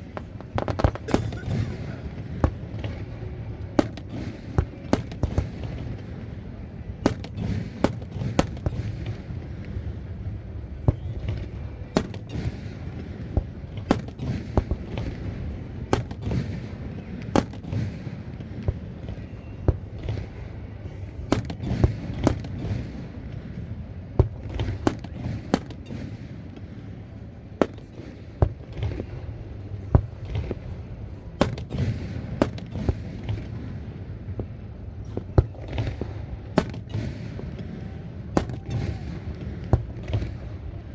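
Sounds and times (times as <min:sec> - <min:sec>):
fireworks bangs and cracks: 0:00.0 - 0:06.2, 0:07.0 - 0:09.9, 0:10.8 - 0:20.4, 0:21.3 - 0:23.4, 0:24.2 - 0:26.7, 0:27.6 - 0:40.8
low rumble of shell bursts: 0:00.0 - 0:19.2, 0:19.8 - 0:40.6.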